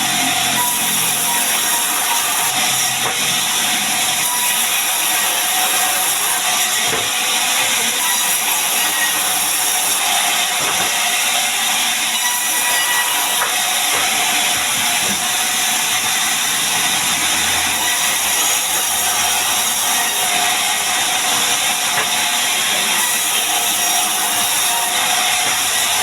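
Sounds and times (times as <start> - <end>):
power saw cutting wood: 0.0 - 26.0.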